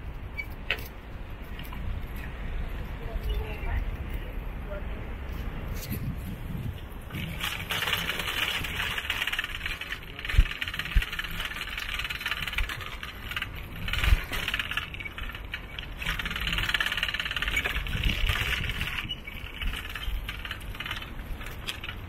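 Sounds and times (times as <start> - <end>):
bicycle rattling on rough surface: 0.0 - 2.4, 5.7 - 22.0.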